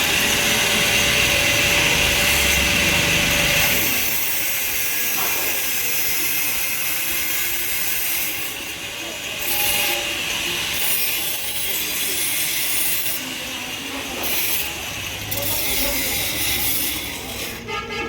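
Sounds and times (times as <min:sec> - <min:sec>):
hand tool rasping on metal: 0:00.0 - 0:17.9.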